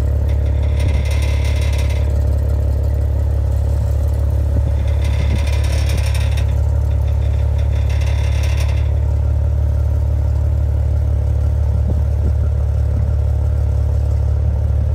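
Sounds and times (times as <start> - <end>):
car engine idling: 0.0 - 14.9
exhaust pipes rattling: 0.0 - 14.9.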